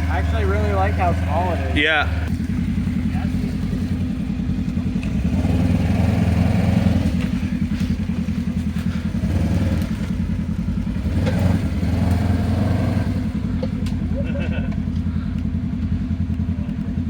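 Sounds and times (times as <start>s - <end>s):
vehicle engine running at low speed: 0.0s - 17.0s.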